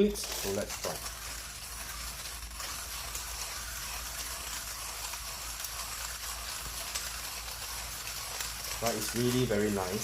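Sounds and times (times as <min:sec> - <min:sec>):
hand grinder crunching coffee beans: 0:00.0 - 0:10.0.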